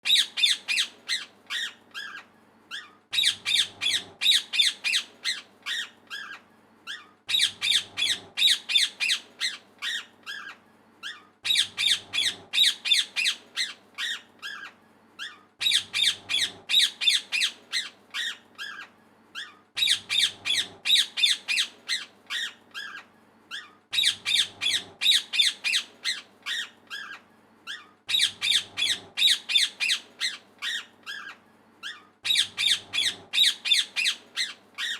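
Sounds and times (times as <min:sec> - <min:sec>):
parrot squawking: 0:00.0 - 0:34.9.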